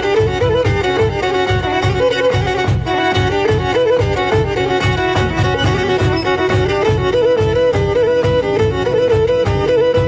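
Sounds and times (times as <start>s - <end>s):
fast drum beat: 0.0s - 10.0s
fiddle playing quick melody: 0.0s - 10.0s.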